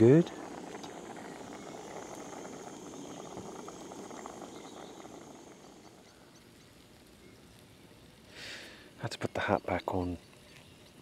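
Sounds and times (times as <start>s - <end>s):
pot bubbling with crackles: 0.0s - 11.0s.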